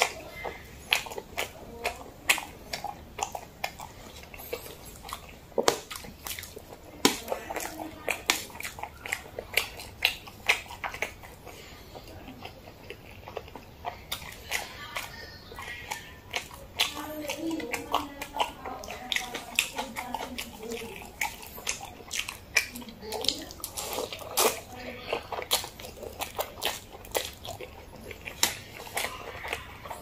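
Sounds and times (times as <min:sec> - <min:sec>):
lip smacks: 0:00.0 - 0:30.0
wet chewing: 0:00.0 - 0:30.0.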